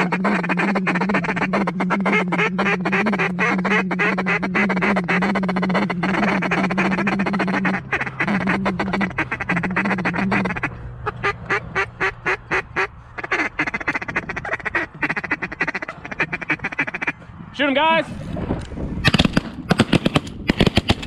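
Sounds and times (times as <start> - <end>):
ducks quacking and chattering: 0.0 - 17.3
evenly spaced duck quacks: 0.0 - 17.3.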